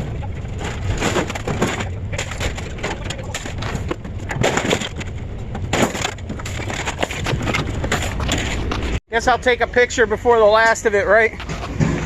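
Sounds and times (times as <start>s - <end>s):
scrap metal clanking: 0.0s - 9.0s, 11.3s - 12.0s
low engine rumble: 0.0s - 12.0s.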